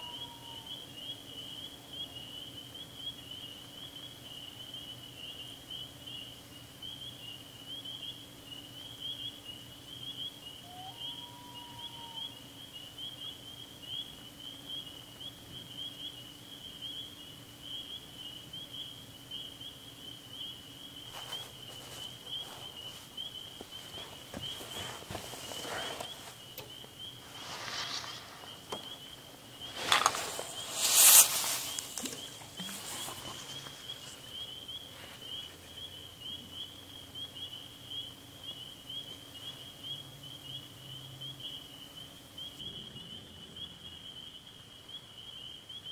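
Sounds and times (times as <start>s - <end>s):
distant frogs calling: 0.0s - 45.9s.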